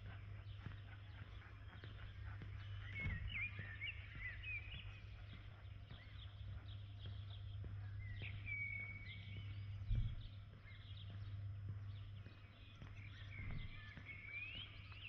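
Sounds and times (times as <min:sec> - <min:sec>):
birds chirping: 0:00.0 - 0:15.0
footsteps walking: 0:00.0 - 0:15.0
steady low hum: 0:00.0 - 0:15.0.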